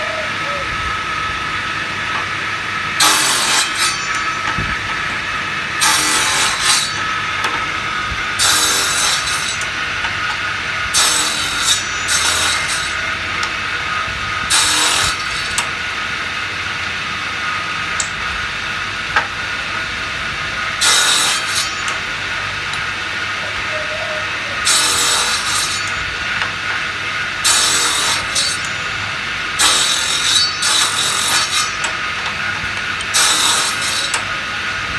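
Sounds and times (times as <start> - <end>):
woodworking tool cutting wood: 0.0 - 15.8, 20.5 - 34.9
machine hum: 0.0 - 34.9.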